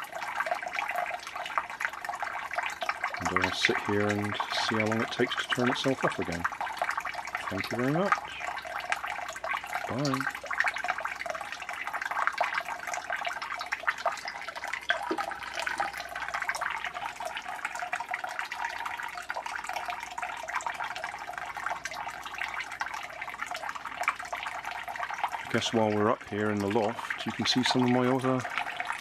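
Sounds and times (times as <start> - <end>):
water splashing into tank: 0.0 - 29.0.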